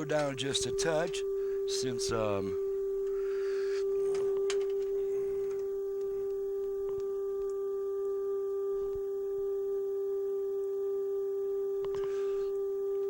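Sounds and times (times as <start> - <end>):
steady test tone: 0.0 - 13.0.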